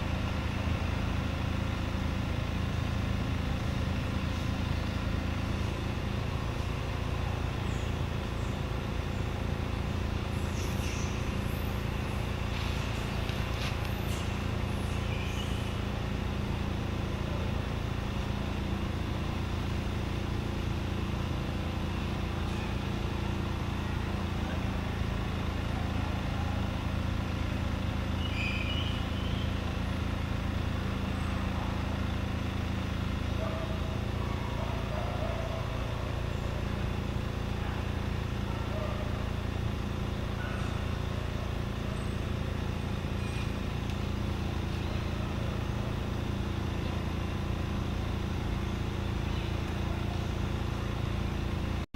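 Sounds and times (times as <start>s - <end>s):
engine humming at idle: 0.0s - 51.9s.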